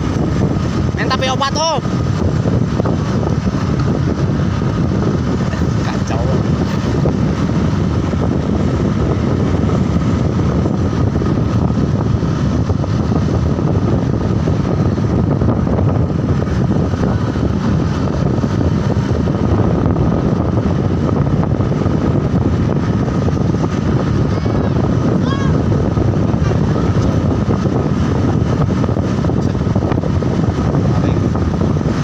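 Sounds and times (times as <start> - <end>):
moving vehicle drone: 0.0 - 32.0
wind buffeting microphone: 0.0 - 32.0.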